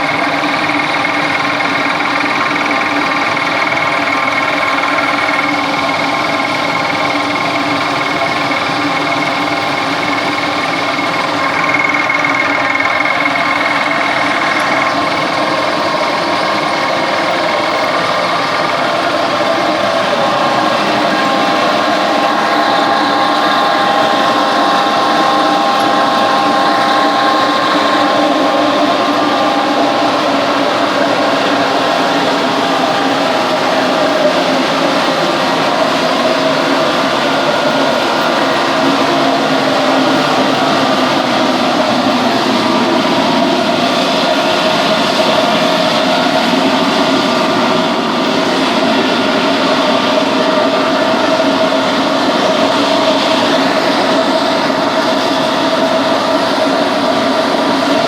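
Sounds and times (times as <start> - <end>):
high whine: 0.0 - 58.0
kiln mechanical noise: 0.0 - 58.0.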